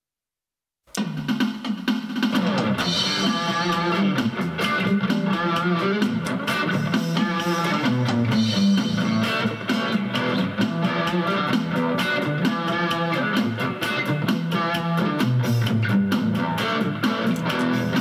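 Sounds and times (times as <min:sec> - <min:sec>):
drum kit beat: 0:00.9 - 0:18.0
electric guitar melody: 0:02.3 - 0:18.0.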